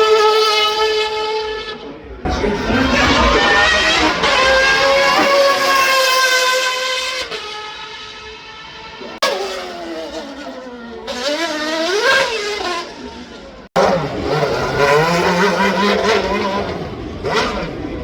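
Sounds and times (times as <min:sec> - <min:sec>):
car engine passing and revving: 0:00.0 - 0:18.0
car engine running loud: 0:00.0 - 0:18.0.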